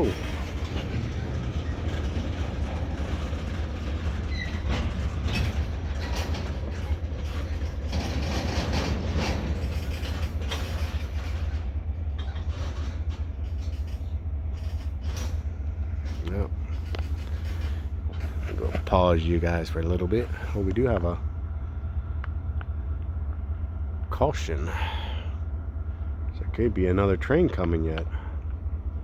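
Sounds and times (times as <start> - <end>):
train low rumble: 0.0 - 29.0
wheels clacking over rail joints: 0.0 - 29.0.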